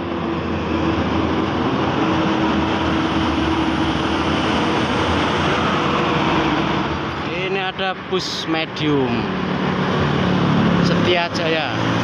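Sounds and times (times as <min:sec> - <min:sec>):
coach engine drone: 0:00.0 - 0:12.0
road traffic: 0:00.0 - 0:12.0.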